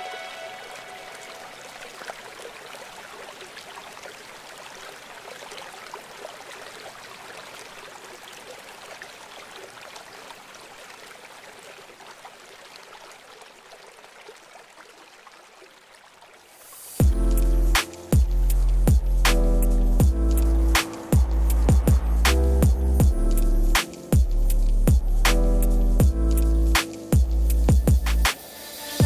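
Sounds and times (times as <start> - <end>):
running water hiss: 0.0 - 14.9, 16.2 - 29.0.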